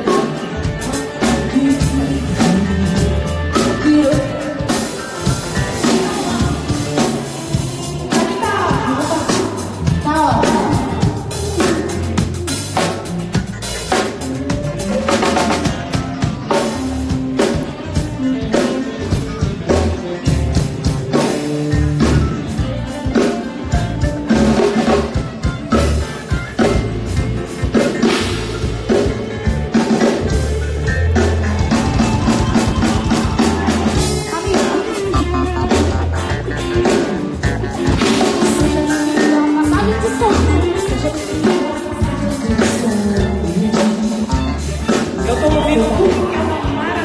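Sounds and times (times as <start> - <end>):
drum kit snare and kick: 0.0 - 46.8
live band playing: 0.0 - 47.0.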